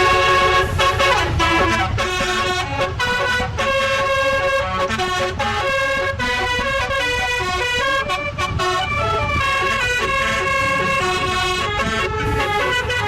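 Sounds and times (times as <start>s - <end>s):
low engine rumble: 0.0s - 13.0s
musical air horn playing tune: 0.0s - 13.0s.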